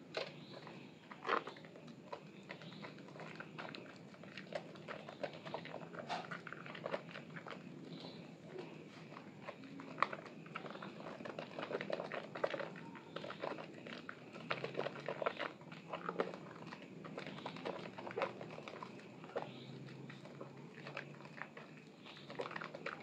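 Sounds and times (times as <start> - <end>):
hands squishing wet soap lather: 0.0 - 23.0.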